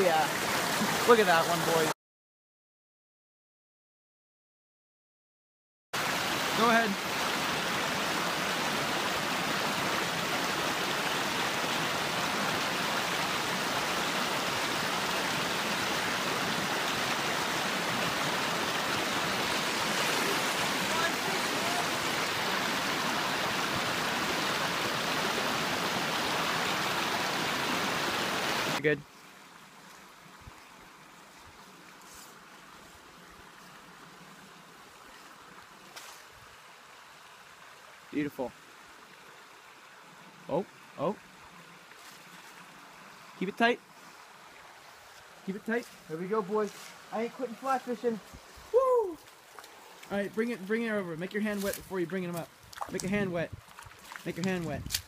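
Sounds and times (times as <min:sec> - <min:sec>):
creek splashing over boulders: 0:00.0 - 0:01.9, 0:06.0 - 0:55.0.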